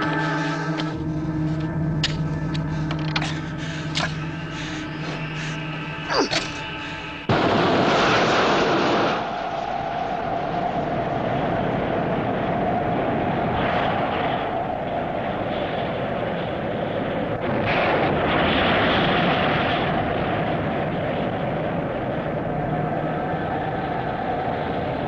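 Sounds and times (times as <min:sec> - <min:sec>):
rocket engine roar: 0:00.0 - 0:25.0.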